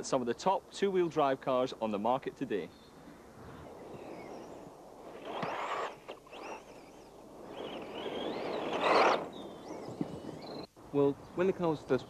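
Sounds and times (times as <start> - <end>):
birds chirping: 1.8 - 12.0.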